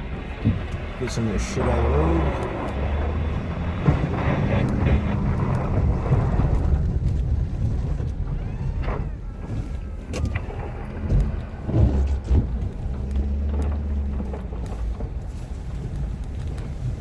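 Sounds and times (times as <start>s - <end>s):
diesel truck engine under load: 0.0s - 17.0s.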